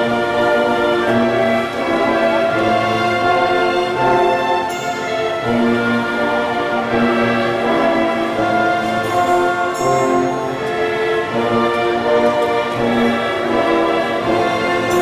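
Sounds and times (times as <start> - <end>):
orchestra playing a melody: 0.0 - 15.0.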